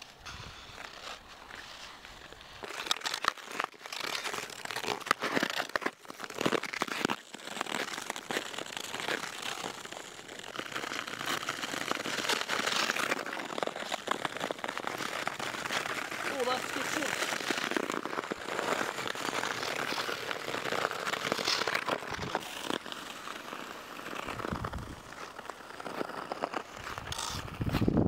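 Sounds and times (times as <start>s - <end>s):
ice skate blades scraping ice: 0.0s - 28.0s.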